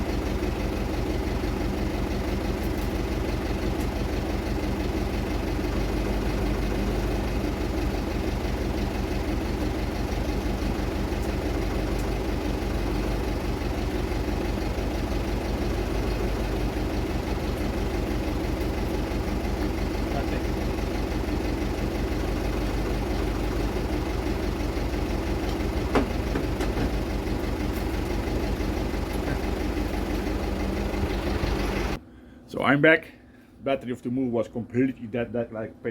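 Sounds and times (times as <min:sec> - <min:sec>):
diesel engine idling: 0:00.0 - 0:34.3.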